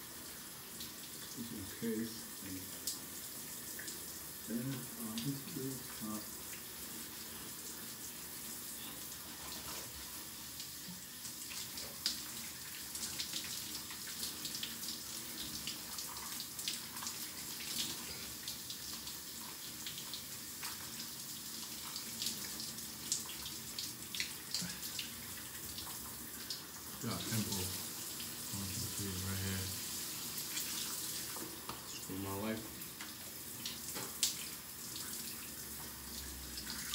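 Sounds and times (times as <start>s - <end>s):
shower water running: 0.0s - 36.9s.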